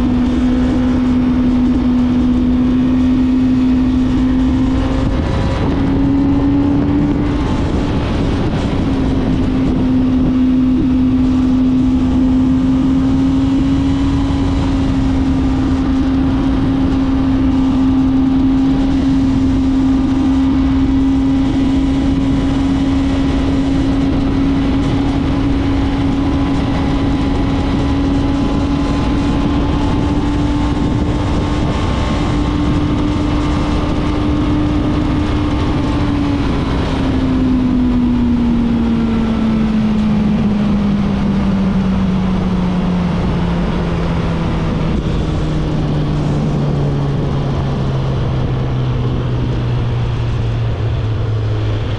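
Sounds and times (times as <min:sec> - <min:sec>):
motorcycle engine cruising: 0:00.0 - 0:51.9
wind and road noise: 0:00.0 - 0:51.9.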